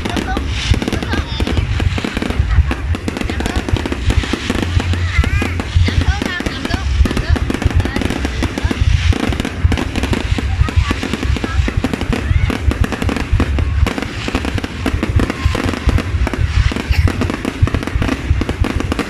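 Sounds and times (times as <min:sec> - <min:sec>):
deep fireworks booms: 0:00.0 - 0:19.0
fireworks bangs and crackles: 0:00.0 - 0:19.0.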